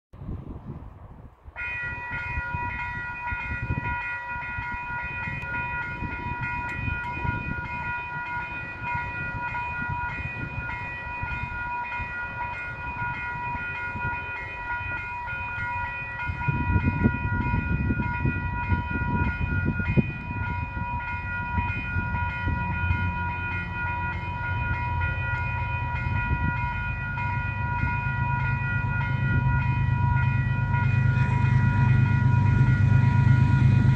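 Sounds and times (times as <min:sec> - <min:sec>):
diesel locomotive engine hum: 0:00.1 - 0:33.9
level-crossing warning bells: 0:01.6 - 0:33.9.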